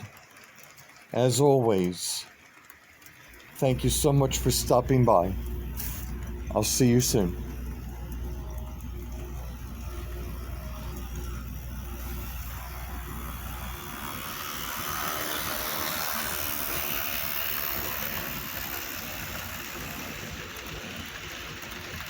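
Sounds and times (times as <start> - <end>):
model train running on rails: 0.0 - 22.0
low hum: 3.3 - 22.0.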